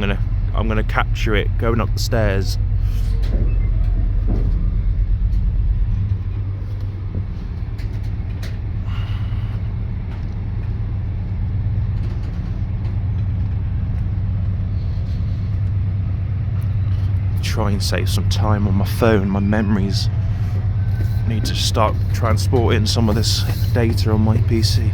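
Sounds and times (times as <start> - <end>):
diesel locomotive rumbling: 0.0 - 24.9.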